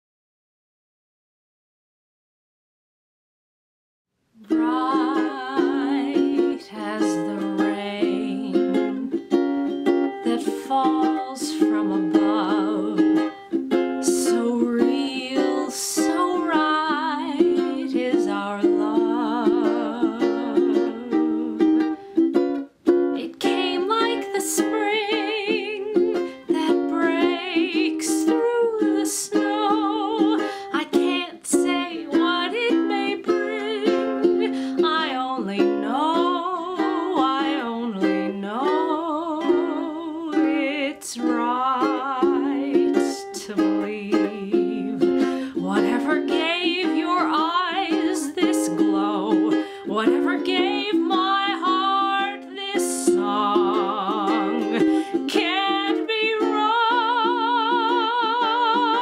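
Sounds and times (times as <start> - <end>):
strummed ukulele: 4.4 - 59.0
woman singing a slow ballad: 4.5 - 9.1, 10.2 - 13.2, 14.0 - 21.7, 23.2 - 59.0.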